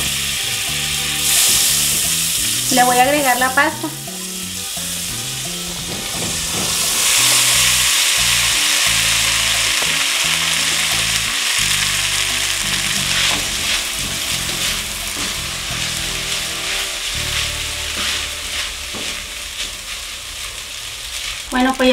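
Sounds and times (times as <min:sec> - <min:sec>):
pasta sizzling in butter: 0:00.0 - 0:21.9
soft background music: 0:00.0 - 0:21.9
spatula stirring: 0:01.2 - 0:21.9.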